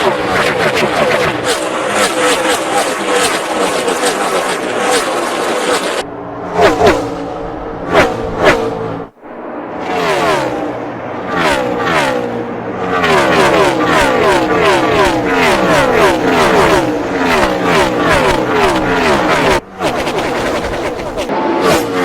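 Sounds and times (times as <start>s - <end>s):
race car engines passing: 0.0s - 22.0s.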